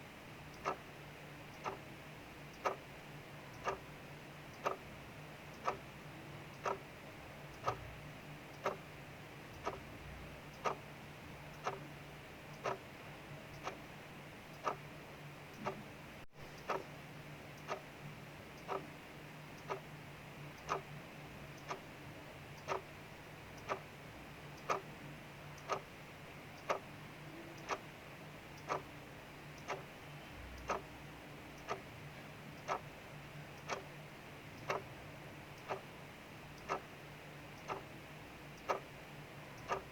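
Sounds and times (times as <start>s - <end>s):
clock ticking: 0.4s - 15.9s, 16.5s - 19.9s, 20.5s - 39.9s.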